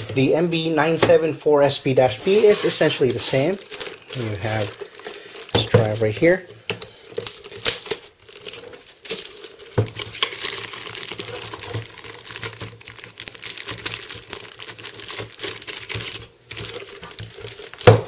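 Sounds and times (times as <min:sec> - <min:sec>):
plastic bag crinkling: 0:01.9 - 0:18.0.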